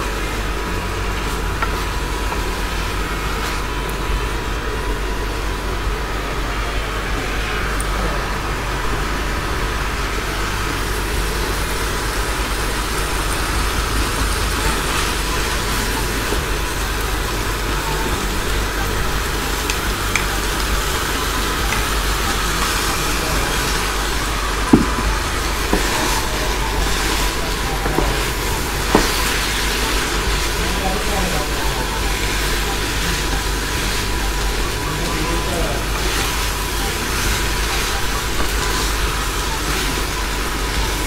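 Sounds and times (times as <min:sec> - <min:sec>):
food sizzling in frying pan: 0:00.0 - 0:41.0
steady low hum: 0:00.0 - 0:41.0.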